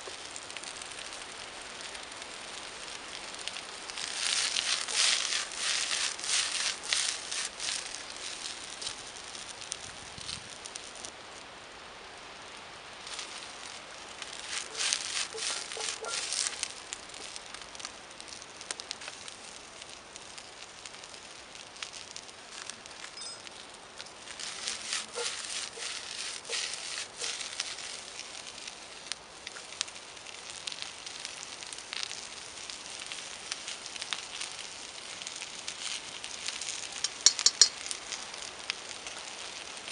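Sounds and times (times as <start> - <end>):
vegetables sizzling in a wok: 0.0 - 39.9
wood fire crackling: 0.0 - 39.9.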